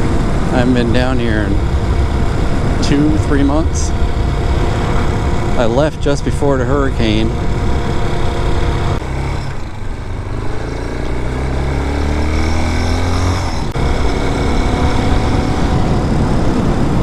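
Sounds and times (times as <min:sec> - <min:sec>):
dirt bike engine accelerating: 0:00.0 - 0:17.0.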